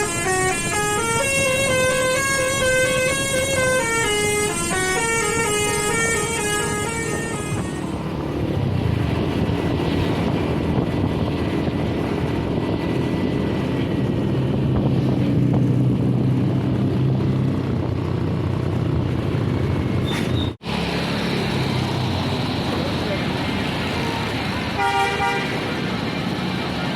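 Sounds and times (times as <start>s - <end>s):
bus diesel engine running: 0.0s - 26.9s
road and traffic noise: 0.0s - 26.9s.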